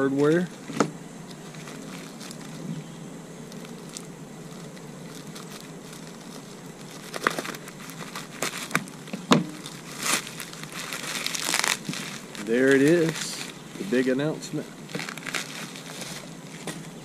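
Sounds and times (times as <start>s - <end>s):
bubble wrap crinkling and tearing: 0.0s - 17.0s
faint steady hum: 0.0s - 17.0s.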